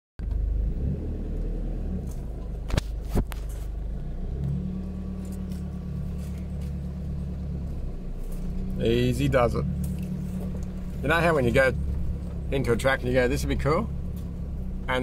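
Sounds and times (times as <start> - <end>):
engine running at low revs: 0.2 - 15.0.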